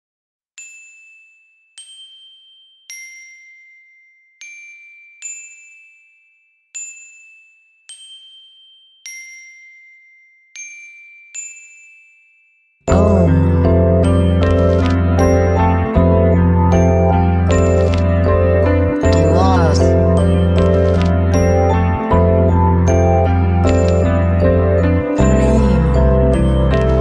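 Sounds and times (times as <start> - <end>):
bell-like struck notes: 0.6 - 27.0.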